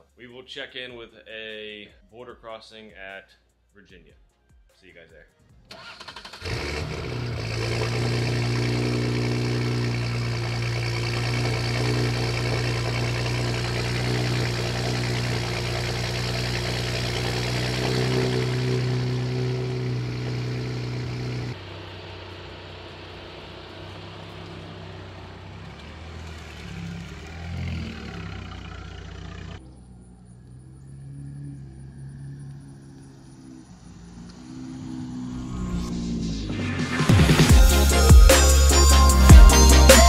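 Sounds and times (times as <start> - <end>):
car engine idling: 5.7 - 40.0.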